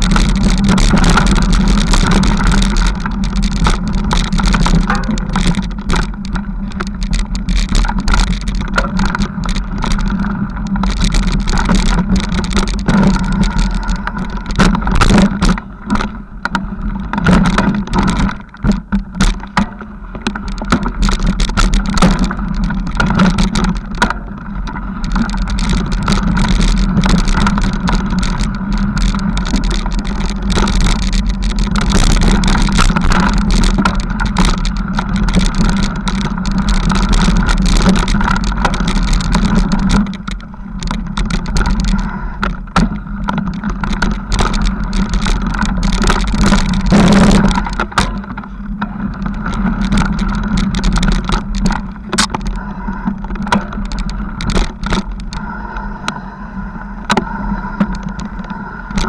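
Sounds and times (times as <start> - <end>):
bike rattling over bumps: 0.0 - 59.0
wind and tyre rumble: 0.0 - 59.0.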